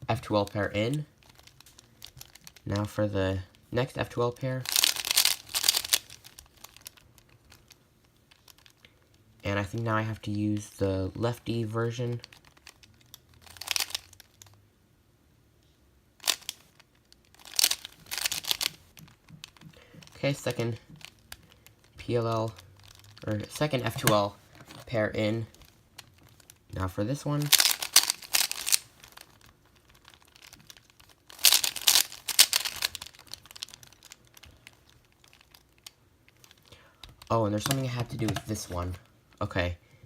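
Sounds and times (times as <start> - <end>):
puzzle cube clicking and scraping: 0.2 - 8.9, 12.0 - 14.5, 16.2 - 39.0.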